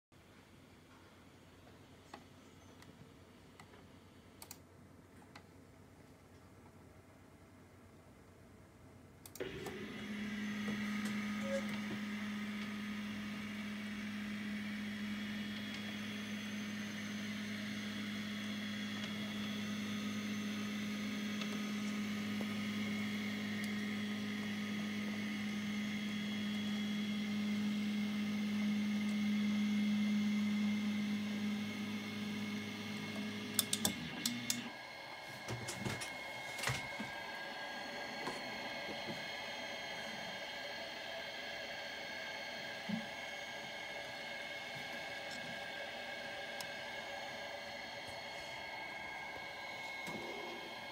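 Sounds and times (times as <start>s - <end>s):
stepper motors humming: 9.3s - 50.9s.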